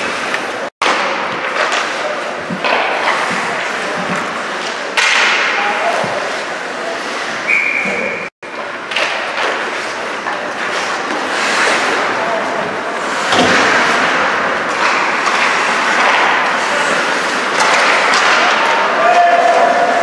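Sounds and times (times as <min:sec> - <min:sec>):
skates scraping ice: 0:00.0 - 0:20.0.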